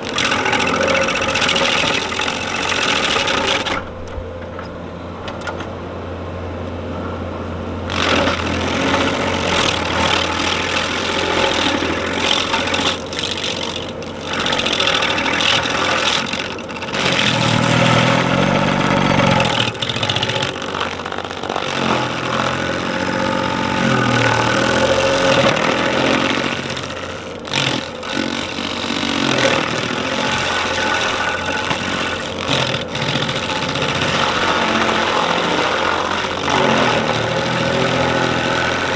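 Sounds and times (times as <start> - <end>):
landscaping machine engine running: 0.0 - 38.9.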